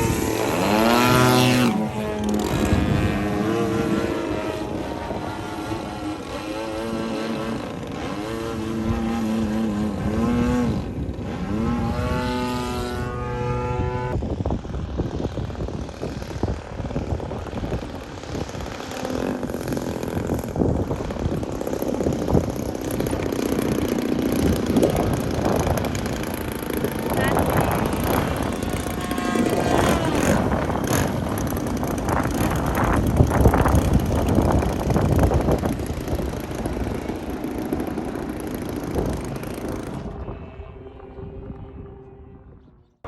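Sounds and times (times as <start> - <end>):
model airplane engine running: 0.0 - 42.6.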